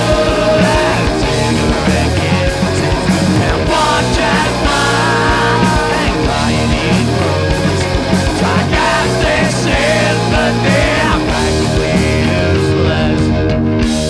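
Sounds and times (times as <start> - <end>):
rock band playing: 0.0 - 14.0
wavering lead guitar: 0.0 - 14.0.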